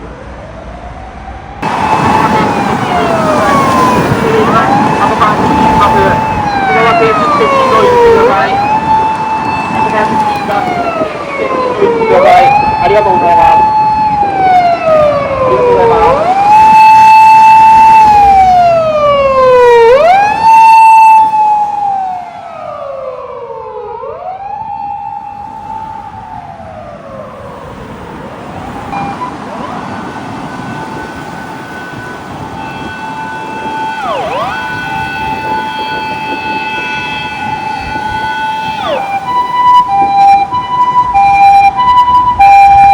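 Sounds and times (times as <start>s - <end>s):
emergency vehicle siren wailing: 0.0s - 42.9s
steady siren tone: 0.0s - 42.9s.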